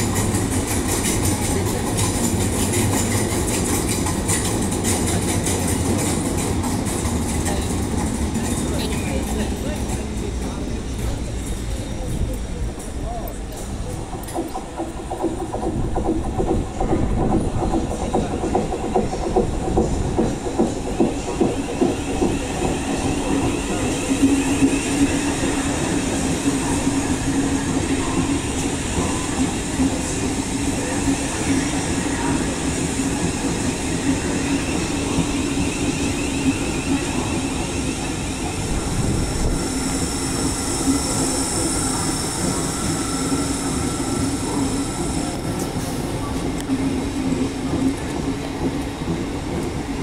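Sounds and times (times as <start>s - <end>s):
electric train hum: 0.0s - 50.0s
wheels rumbling on rail: 0.0s - 50.0s.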